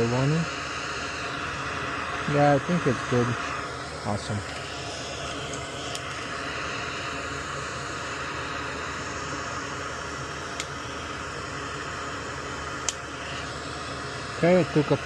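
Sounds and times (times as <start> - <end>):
fan-like air hiss: 0.0 - 15.0.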